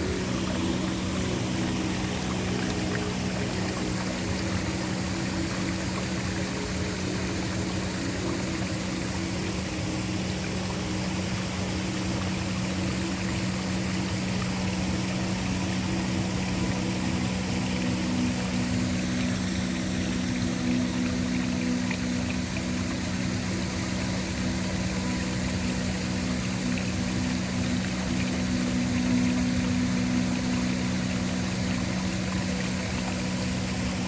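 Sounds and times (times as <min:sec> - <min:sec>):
low sustained drone: 0:00.0 - 0:34.0
waterfall rushing: 0:00.0 - 0:34.0.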